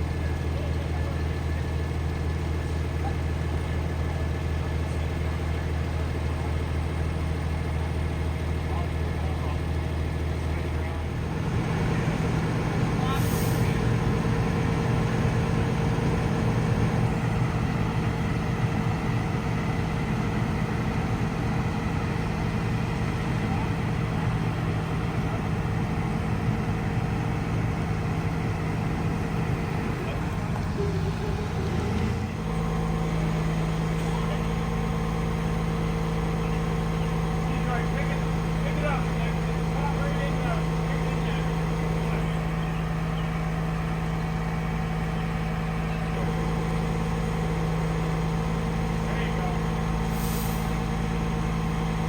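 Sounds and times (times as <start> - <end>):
large engine idling: 0.0 - 52.0.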